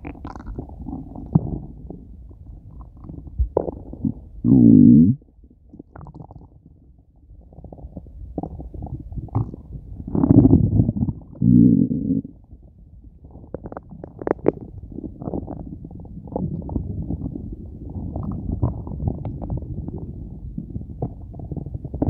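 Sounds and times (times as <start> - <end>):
stomach growling and gurgling: 0.0 - 22.0.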